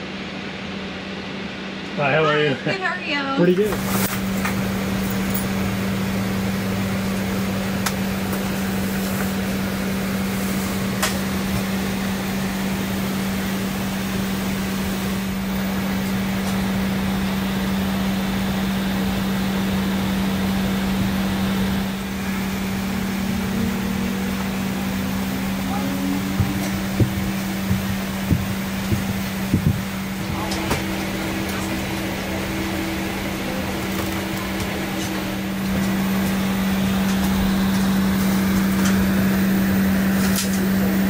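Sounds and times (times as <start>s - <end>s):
cabin air conditioning hum: 0.0s - 41.0s
faint rising whine: 0.0s - 41.0s.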